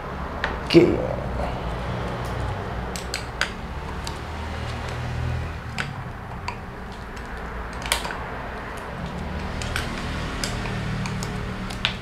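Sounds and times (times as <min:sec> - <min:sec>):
steady low hum: 0:00.0 - 0:12.0
hex key metal clicks: 0:02.1 - 0:12.0.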